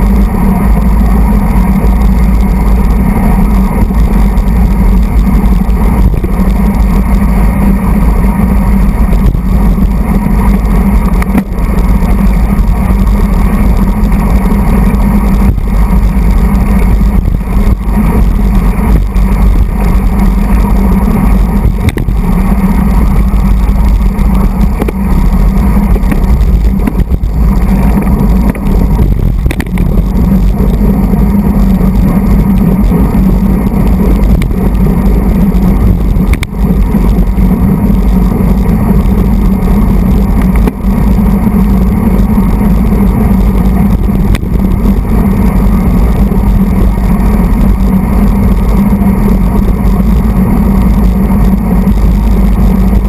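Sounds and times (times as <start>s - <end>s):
road vibration: 0.0s - 53.0s
wind rumble on microphone: 0.0s - 53.0s.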